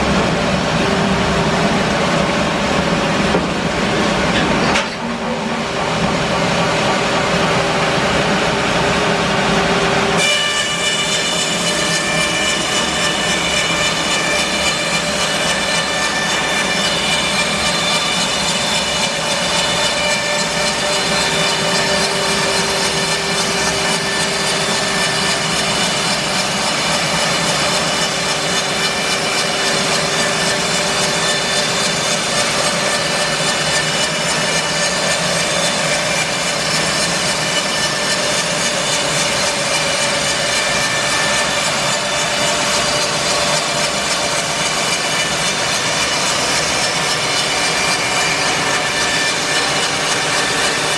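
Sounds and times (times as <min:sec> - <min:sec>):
band saw whine cutting wood: 0:00.0 - 0:50.9.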